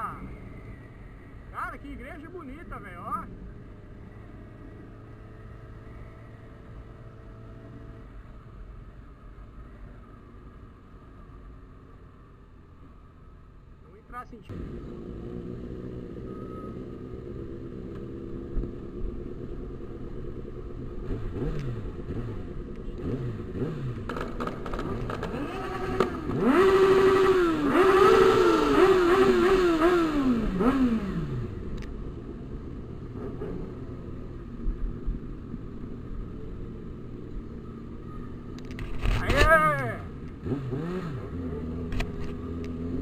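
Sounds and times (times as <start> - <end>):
motorcycle engines revving: 0.0 - 8.8, 14.4 - 43.0.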